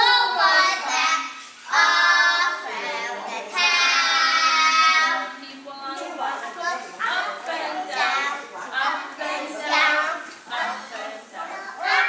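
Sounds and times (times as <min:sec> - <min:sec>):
children singing: 0:00.0 - 0:05.4, 0:06.0 - 0:12.0.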